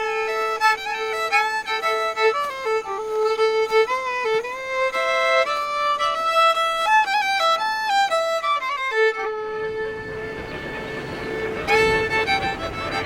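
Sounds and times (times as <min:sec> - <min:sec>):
fiddle melody: 0:00.0 - 0:13.0.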